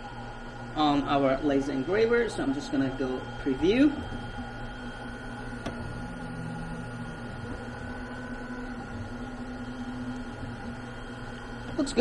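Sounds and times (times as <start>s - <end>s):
laser engraver stepper motors: 0.0s - 12.0s
steady hum: 0.0s - 12.0s.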